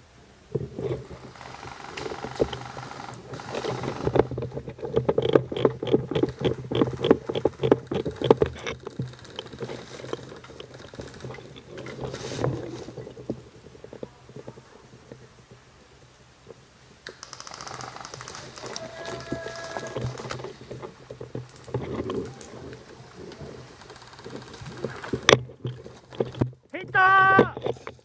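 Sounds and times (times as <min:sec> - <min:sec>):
gear and rifle rattling: 0:00.5 - 0:15.3, 0:17.0 - 0:28.0.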